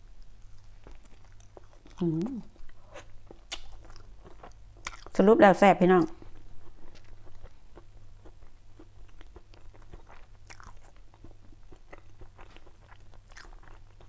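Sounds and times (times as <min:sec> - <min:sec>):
person chewing: 0:00.0 - 0:05.2, 0:06.1 - 0:14.0.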